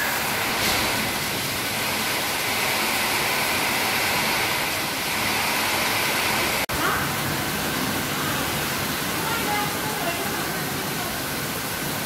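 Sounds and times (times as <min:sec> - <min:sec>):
heavy rain on foliage: 0:00.0 - 0:12.0.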